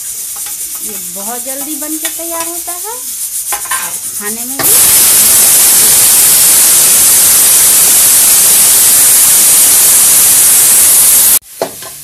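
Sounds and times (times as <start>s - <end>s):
pressure cooker steam hiss: 0.0s - 12.0s.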